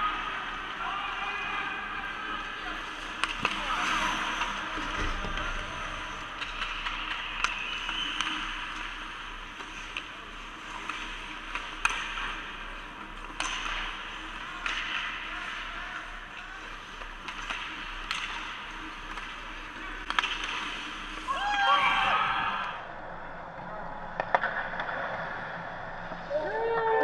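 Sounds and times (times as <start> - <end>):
sticks and puck clacking: 0.1 - 22.0, 24.1 - 25.4.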